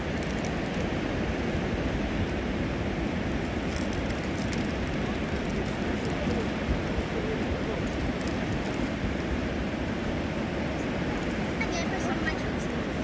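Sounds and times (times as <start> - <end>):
distant waves breaking on beach: 0.0 - 13.0.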